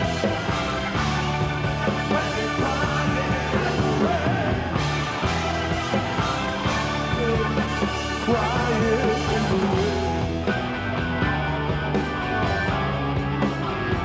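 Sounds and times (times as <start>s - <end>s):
drums: 0.0s - 14.0s
electric guitars: 0.0s - 14.0s
low bass notes: 0.0s - 14.0s.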